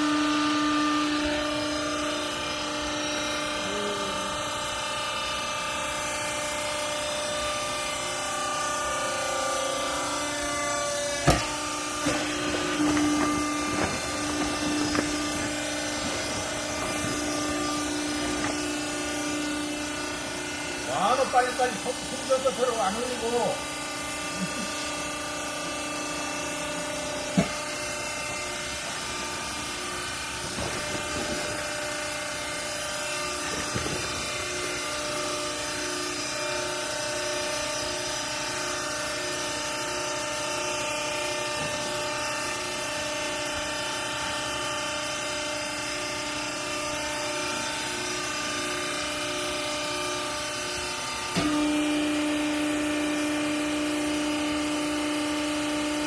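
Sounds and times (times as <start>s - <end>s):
baler machine motor hum: 0.0s - 56.0s.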